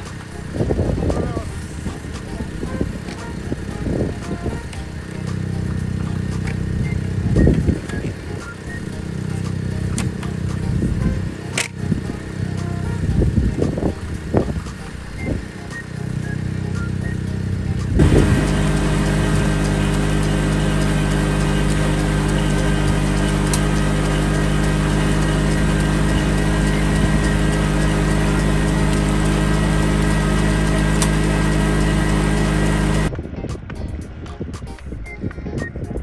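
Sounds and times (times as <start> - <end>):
rice transplanter engine running: 0.0 - 33.1.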